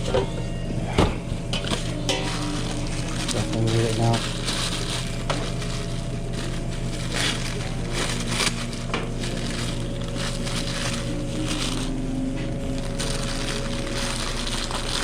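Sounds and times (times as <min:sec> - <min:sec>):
low hum: 0:00.0 - 0:15.0
rustling crunching and clattering: 0:00.0 - 0:15.0.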